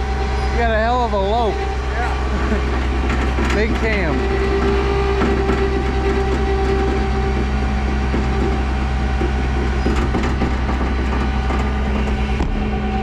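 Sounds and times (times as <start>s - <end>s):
truck engine idling with a lope: 0.0s - 13.0s.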